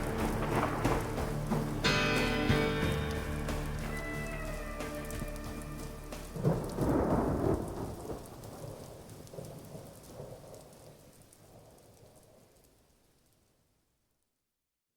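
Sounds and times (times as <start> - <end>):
thunder rumbling: 0.0 - 12.6
rain falling: 0.0 - 13.7.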